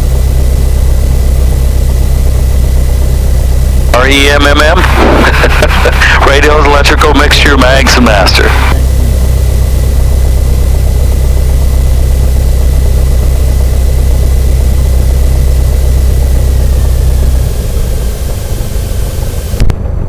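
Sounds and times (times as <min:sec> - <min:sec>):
aircraft engine idling: 0:00.0 - 0:20.0
high whine winding down: 0:00.0 - 0:20.0.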